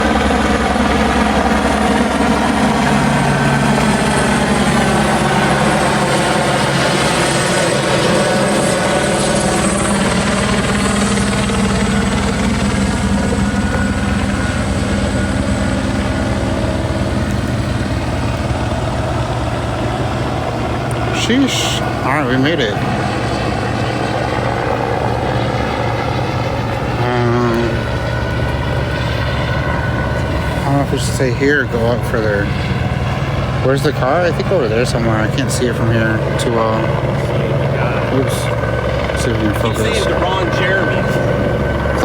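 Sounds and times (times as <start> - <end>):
helicopter rotor drone: 0.0 - 42.0.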